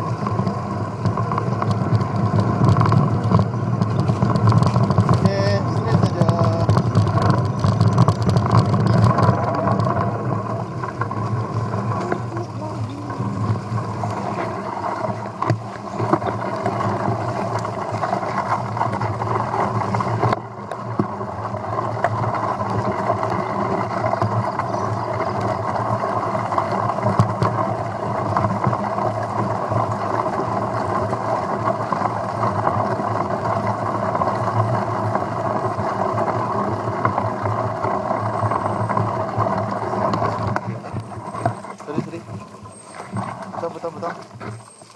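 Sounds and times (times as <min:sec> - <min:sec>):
bike rattles: 0:00.0 - 0:44.9
tyre and wind noise: 0:00.0 - 0:44.9.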